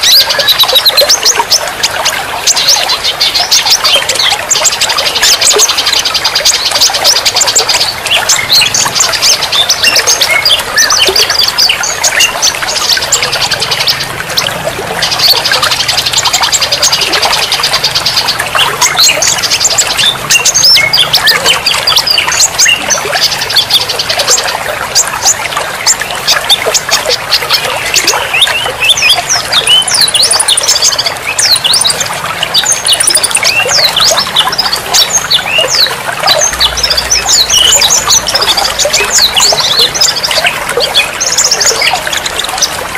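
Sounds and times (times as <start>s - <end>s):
songbirds singing and chirping: 0.0s - 42.9s.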